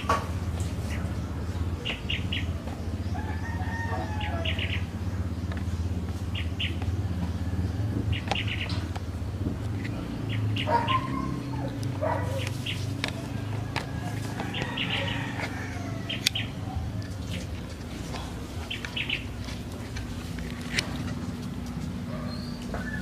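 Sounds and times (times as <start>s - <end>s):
small birds chirping: 0.0s - 23.0s
steady low hum: 0.0s - 23.0s.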